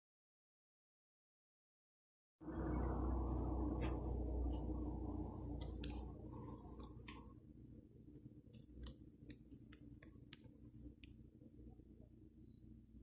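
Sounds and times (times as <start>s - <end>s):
low hum: 2.4s - 13.0s.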